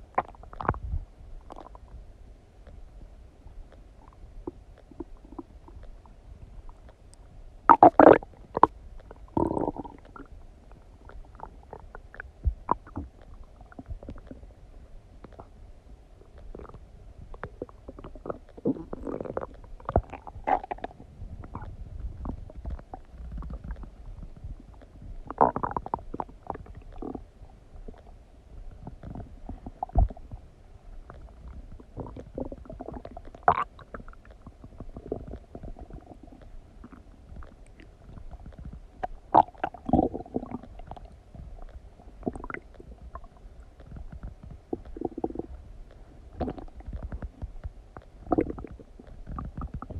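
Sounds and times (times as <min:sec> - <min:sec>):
stomach gurgling and rumbling: 0:00.0 - 0:49.9.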